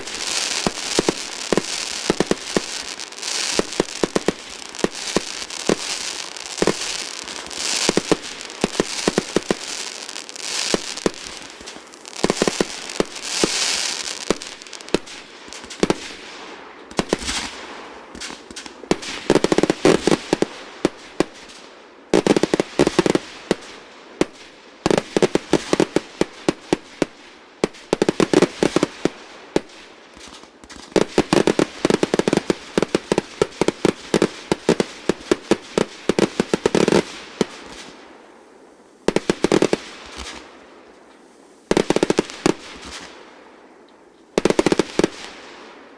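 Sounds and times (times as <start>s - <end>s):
fireworks hissing bursts: 0.0s - 38.0s
fireworks bangs and crackling: 0.0s - 38.3s, 39.0s - 43.4s, 44.3s - 45.9s.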